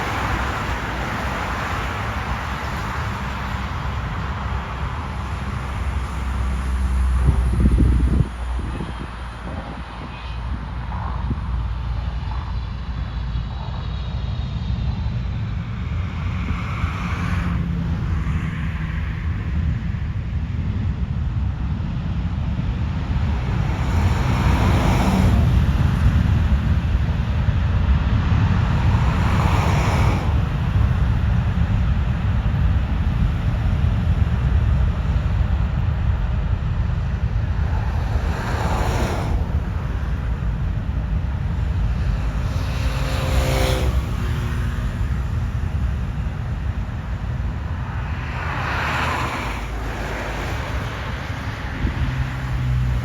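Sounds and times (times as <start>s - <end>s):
jet engines rumbling: 0.0s - 53.0s
road vehicles passing: 0.0s - 53.0s.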